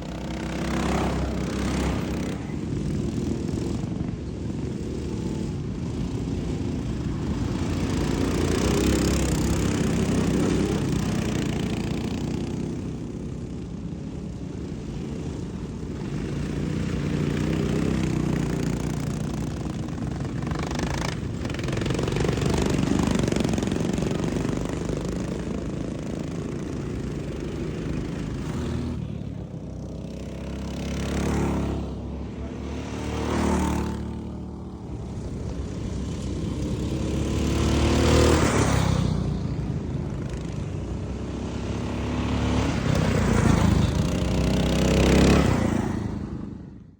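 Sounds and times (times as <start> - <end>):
lawnmower engines passing by: 0.0 - 46.9.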